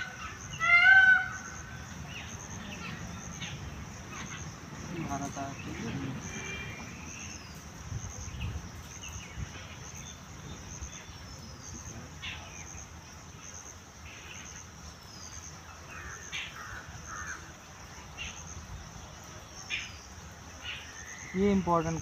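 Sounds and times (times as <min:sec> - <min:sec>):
bird calls: 0:00.0 - 0:22.0
insects chirping: 0:00.0 - 0:22.0.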